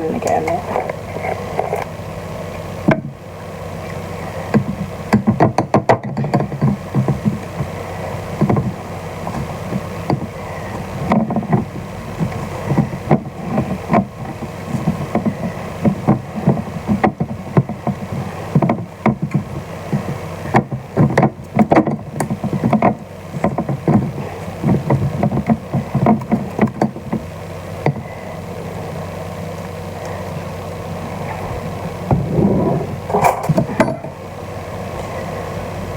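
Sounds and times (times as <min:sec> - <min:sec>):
low steady hum: 0:00.0 - 0:35.9.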